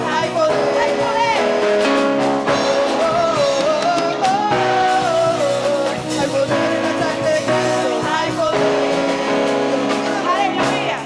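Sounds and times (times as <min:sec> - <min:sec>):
band playing sustained chords: 0:00.0 - 0:11.0
person singing a hymn: 0:00.0 - 0:11.0.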